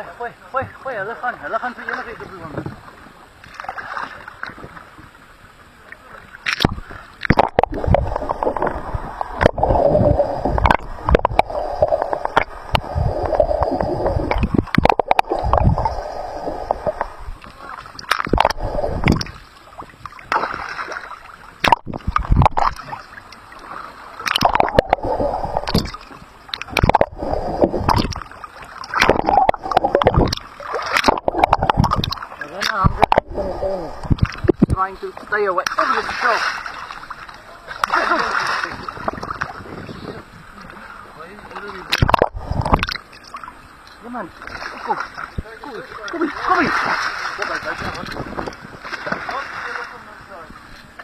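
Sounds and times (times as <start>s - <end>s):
underwater gurgling and sloshing: 0.0s - 51.0s
water splashes and knocks: 0.5s - 5.1s, 5.9s - 9.8s, 10.4s - 15.9s, 16.7s - 33.3s, 34.1s - 39.8s, 41.5s - 51.0s.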